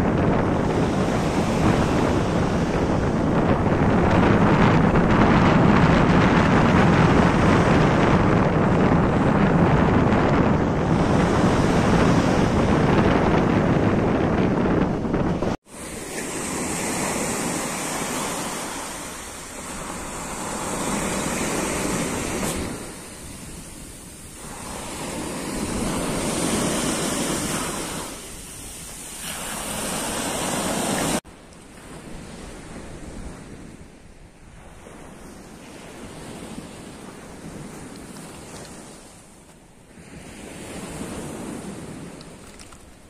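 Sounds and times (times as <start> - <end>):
sea waves washing on sand: 0.0 - 43.0
wind buffeting microphone: 0.0 - 43.0.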